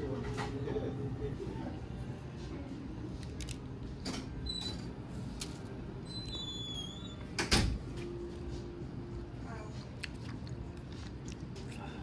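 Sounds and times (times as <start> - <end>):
cafe background hum: 0.0 - 12.0.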